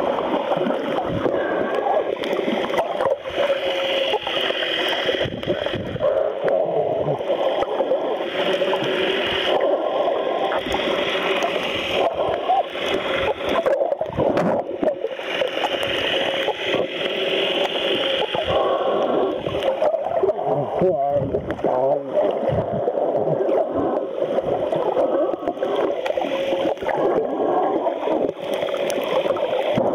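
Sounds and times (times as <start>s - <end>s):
underwater water rush: 0.0s - 29.9s.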